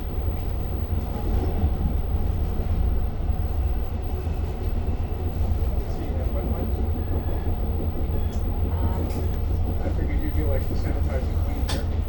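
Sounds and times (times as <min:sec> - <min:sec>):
train car rumble: 0:00.0 - 0:12.0.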